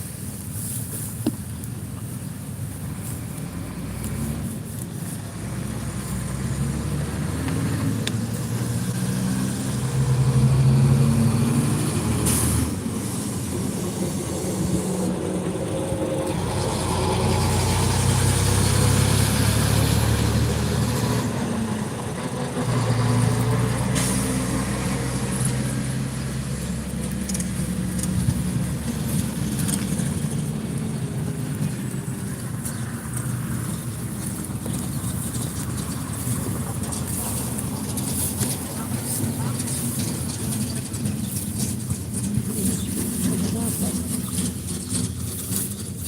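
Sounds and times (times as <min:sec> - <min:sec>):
heavy vehicle engines droning: 0:00.0 - 0:46.0.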